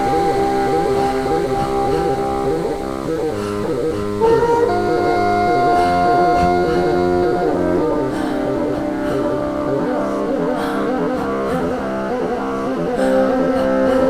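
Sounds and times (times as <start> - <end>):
electronically processed bassoon: 0.0 - 14.0.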